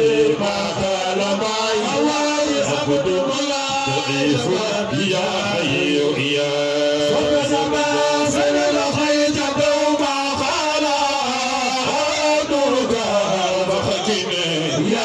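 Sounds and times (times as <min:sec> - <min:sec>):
man chanting over a loudspeaker: 0:00.0 - 0:15.0.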